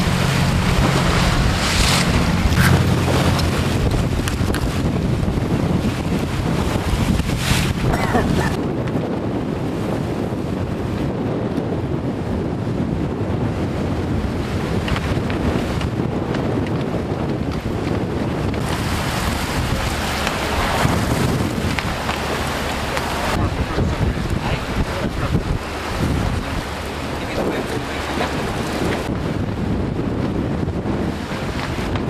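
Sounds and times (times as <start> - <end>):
water rushing past hull: 0.0 - 32.0
wind buffeting microphone: 0.0 - 32.0.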